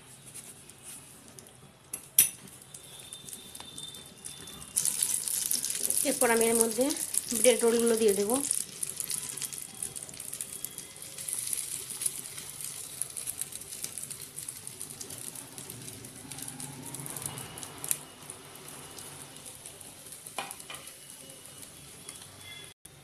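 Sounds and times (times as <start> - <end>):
bread sizzling in hot oil: 2.2 - 22.7.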